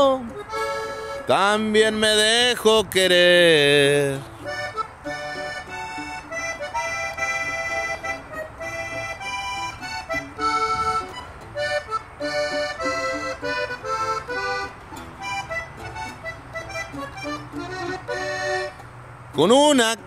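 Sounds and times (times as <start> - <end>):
button accordion melody: 0.0 - 20.0
strummed acoustic guitar: 0.0 - 20.0.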